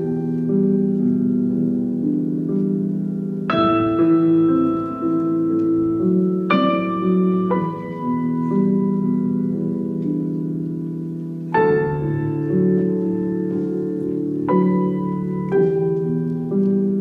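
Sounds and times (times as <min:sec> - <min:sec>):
loud piano chord ringing: 0:00.0 - 0:17.0
slow piano music: 0:00.0 - 0:17.0.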